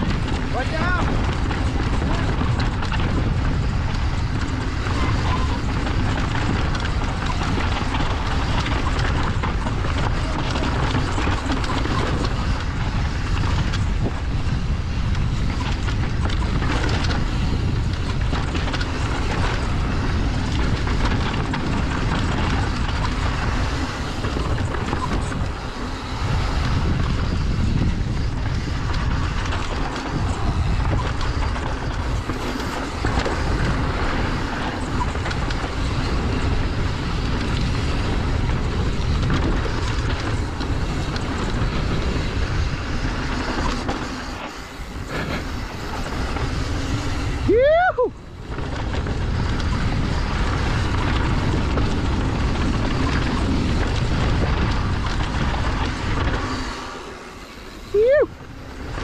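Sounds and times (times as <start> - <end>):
bike rattling over rocks: 0.0 - 59.0
wind buffeting microphone: 0.0 - 59.0.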